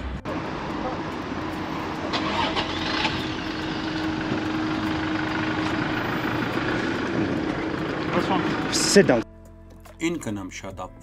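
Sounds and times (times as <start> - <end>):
vehicle engine idling: 0.0 - 9.2.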